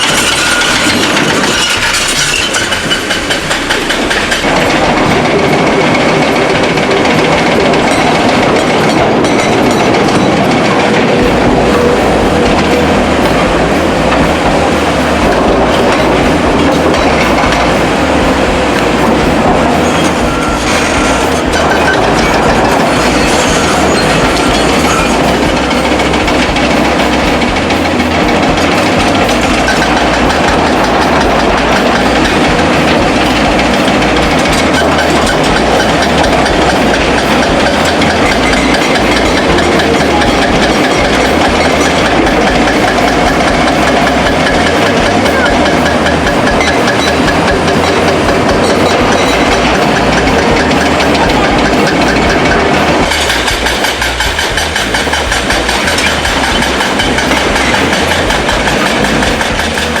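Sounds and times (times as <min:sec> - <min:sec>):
heavy machinery engine rattling: 0:00.0 - 1:00.0.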